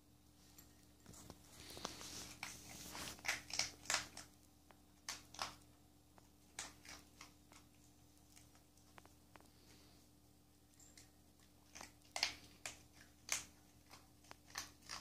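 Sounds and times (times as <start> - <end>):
dog crunching dry kibble: 0.5 - 9.8, 10.7 - 15.0.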